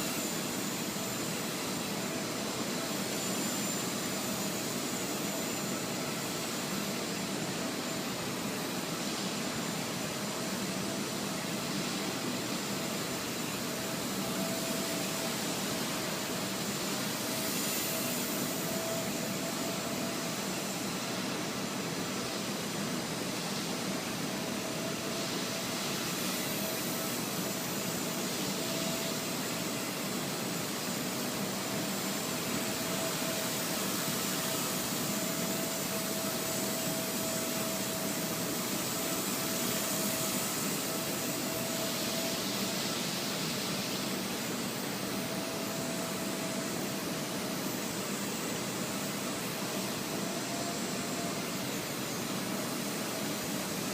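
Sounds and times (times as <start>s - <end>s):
rc helicopter rotor whirring: 0.0s - 53.9s.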